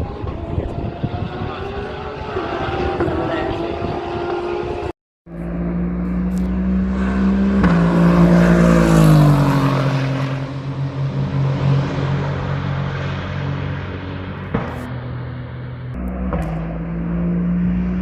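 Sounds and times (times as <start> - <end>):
race car passing at speed: 0.0 - 18.0.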